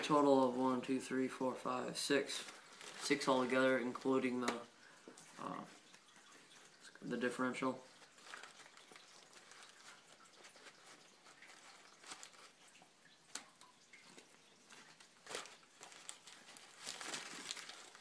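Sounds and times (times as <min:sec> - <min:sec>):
faint rustling: 0:02.0 - 0:18.0.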